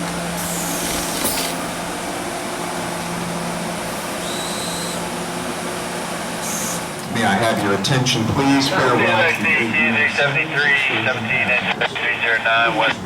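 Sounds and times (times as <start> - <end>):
train car hiss and hum: 0.0 - 13.0.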